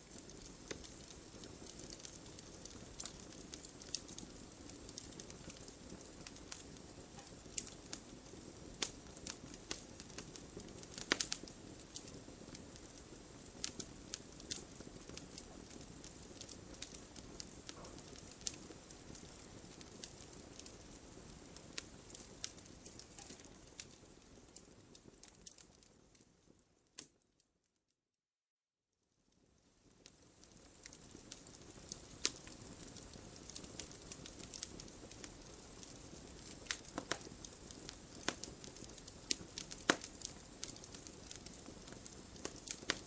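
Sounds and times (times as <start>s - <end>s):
wood fire crackling and popping: 0.0s - 27.2s, 29.4s - 43.0s.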